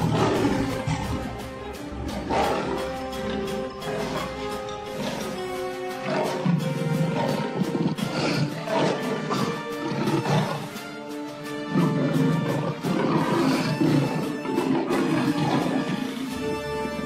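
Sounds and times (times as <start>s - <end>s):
background music: 0.0s - 17.0s
lion growling and roaring: 0.0s - 17.0s.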